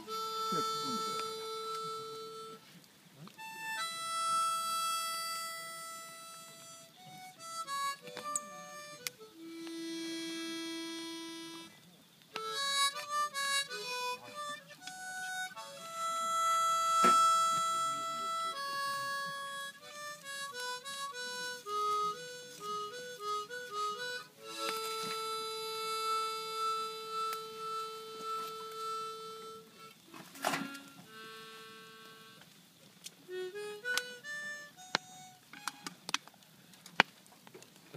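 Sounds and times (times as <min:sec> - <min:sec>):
reedy instrument melody: 0:00.0 - 0:02.7, 0:03.4 - 0:11.8, 0:12.4 - 0:32.6, 0:33.3 - 0:36.2.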